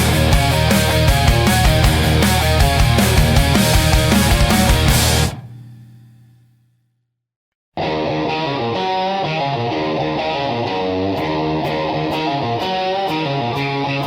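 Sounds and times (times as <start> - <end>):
instrumental guitar rock music: 0.0 - 6.1, 7.8 - 14.0.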